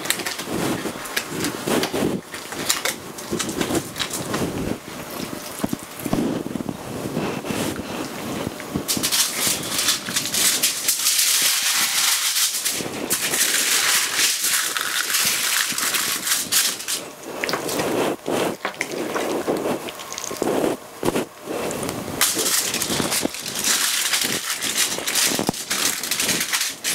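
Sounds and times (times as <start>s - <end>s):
aluminium foil crinkling: 0.0s - 6.4s, 7.2s - 20.8s, 22.2s - 26.9s.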